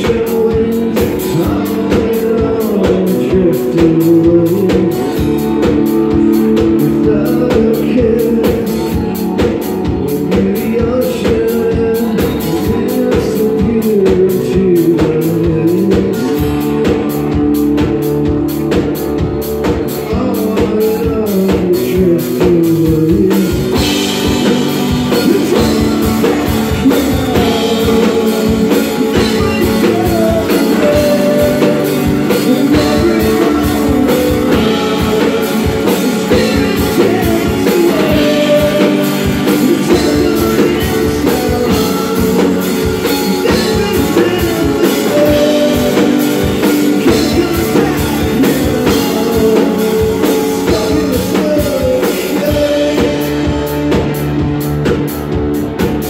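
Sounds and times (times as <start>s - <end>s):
man singing: 0.0s - 54.4s
drum kit: 0.0s - 56.0s
electric bass: 0.0s - 56.0s
electric guitar: 0.0s - 56.0s.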